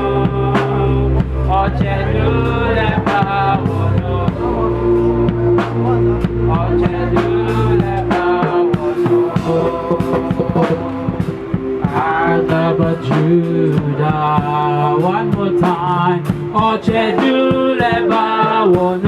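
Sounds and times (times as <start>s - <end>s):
live band playing: 0.0s - 19.0s
voices singing: 0.0s - 19.0s.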